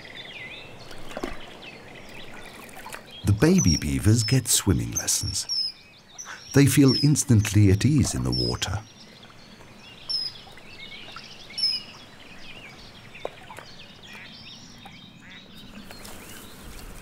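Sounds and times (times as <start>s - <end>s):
birds chirping and calling: 0.0s - 16.7s.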